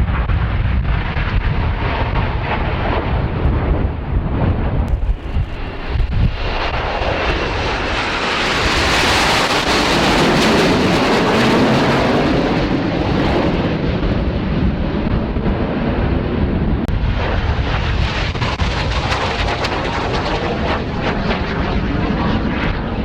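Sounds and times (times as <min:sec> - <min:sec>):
aircraft flying past: 0:00.1 - 0:23.0.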